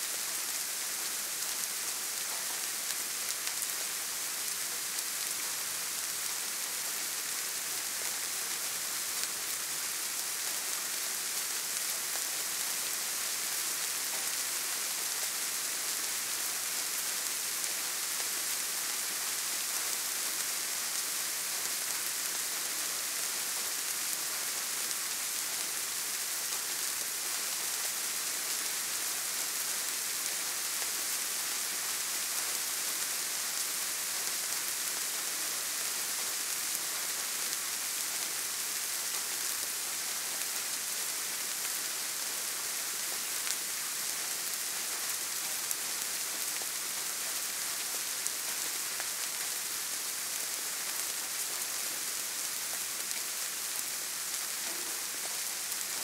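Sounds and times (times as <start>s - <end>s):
soft rain falling: 0.0s - 56.0s.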